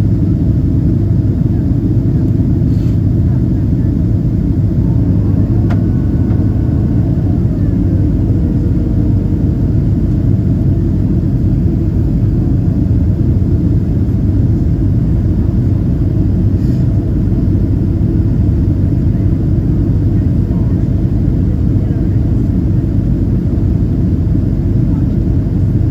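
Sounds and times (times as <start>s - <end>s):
airplane engines rumbling: 0.0s - 25.9s.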